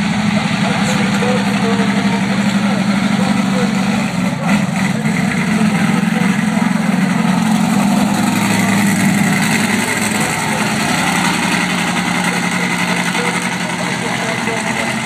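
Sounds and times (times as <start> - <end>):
loud truck engine running: 0.0 - 15.0.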